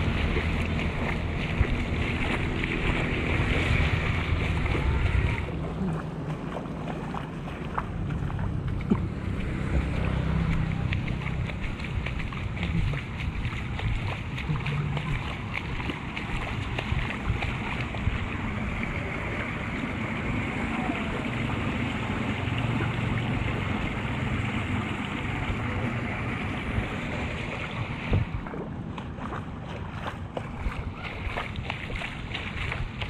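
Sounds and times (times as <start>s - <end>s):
floodwater rushing into drain: 0.0s - 33.0s
wind buffeting microphone: 0.0s - 33.0s.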